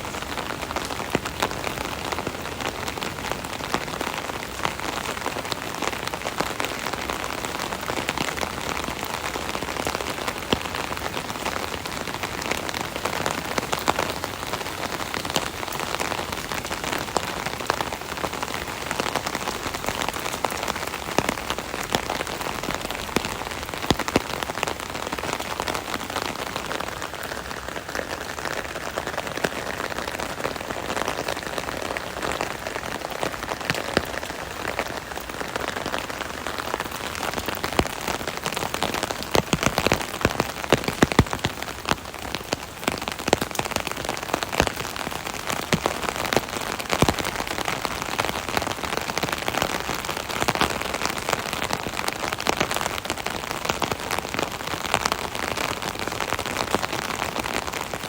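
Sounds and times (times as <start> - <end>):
rain pattering on umbrella: 0.0 - 58.0.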